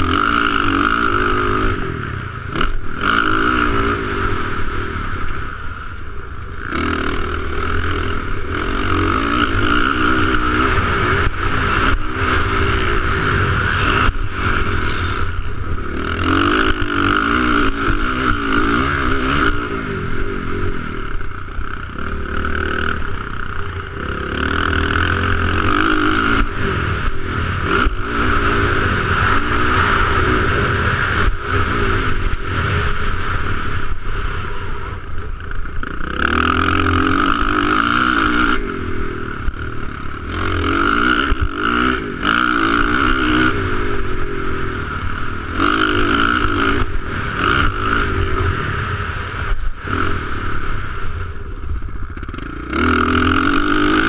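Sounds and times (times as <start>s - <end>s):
dirt bike engine revving: 0.0s - 54.0s
wind rushing over microphone: 0.0s - 54.0s.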